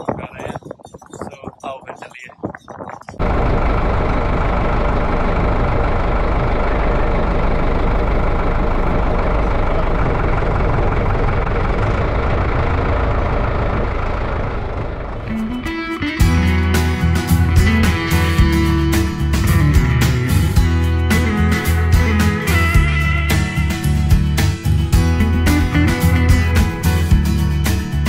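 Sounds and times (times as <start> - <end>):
tractor diesel engine running: 3.1 - 28.0.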